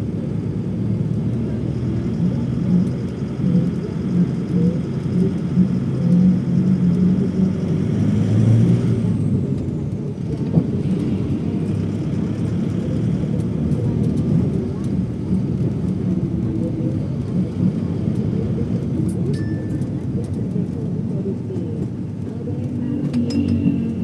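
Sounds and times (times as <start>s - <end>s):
airliner engines droning: 0.0s - 24.0s.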